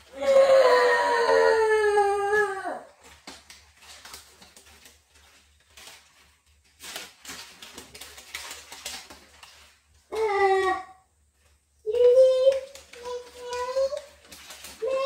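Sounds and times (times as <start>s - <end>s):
paper rustling and crinkling: 2.8s - 15.0s.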